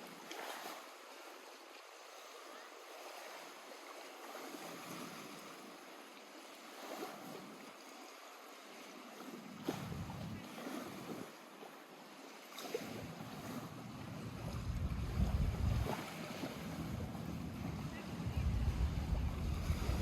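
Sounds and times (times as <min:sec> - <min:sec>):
water lapping at shore: 0:00.0 - 0:20.0.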